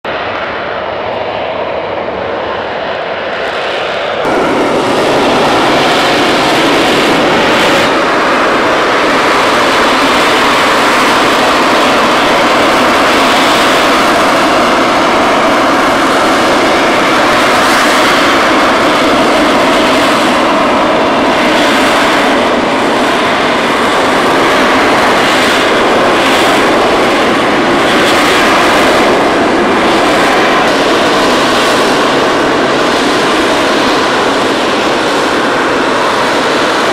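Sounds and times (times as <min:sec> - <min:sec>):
jet engine roar: 0:00.0 - 0:36.9.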